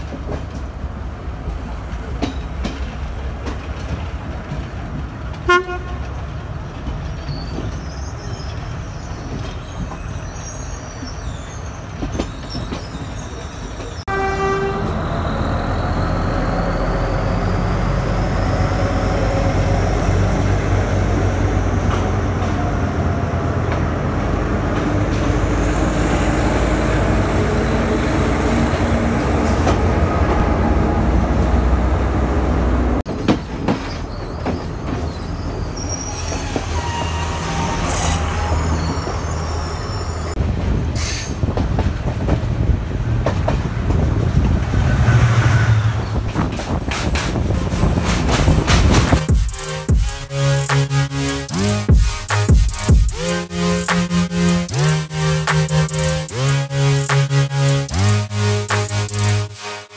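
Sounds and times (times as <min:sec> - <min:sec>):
train rumbling on rails: 0:00.0 - 0:59.8
diesel locomotive engine drone: 0:00.0 - 0:59.9.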